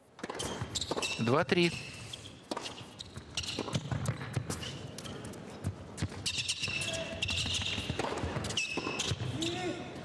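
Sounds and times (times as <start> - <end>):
tennis ball bouncing: 0.2 - 1.3, 1.9 - 9.4.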